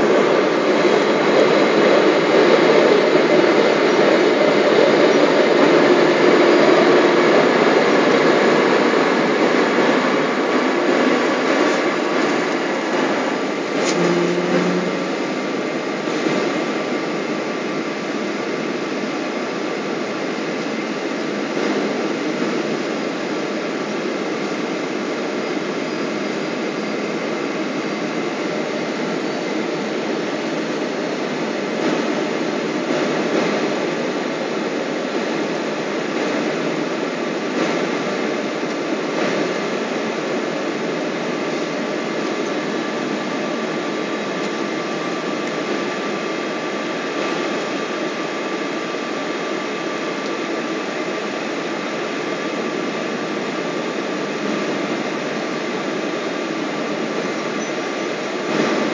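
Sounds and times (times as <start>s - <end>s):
jet cabin engine drone: 0.0s - 58.9s.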